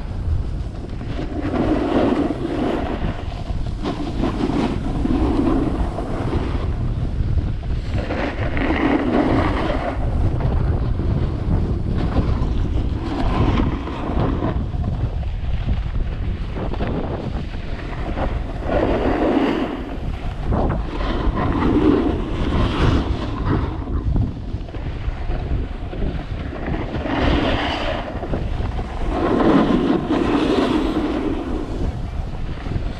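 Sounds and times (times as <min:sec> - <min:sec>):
skis scraping across snow: 0:00.0 - 0:32.9
wind rushing over microphone: 0:00.0 - 0:32.9.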